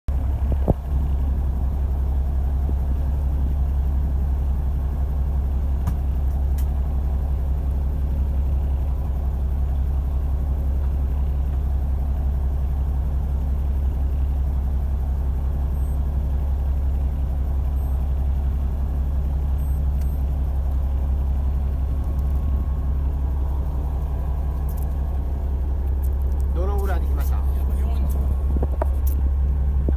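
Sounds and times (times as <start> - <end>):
boat engine droning: 0.1 - 29.9.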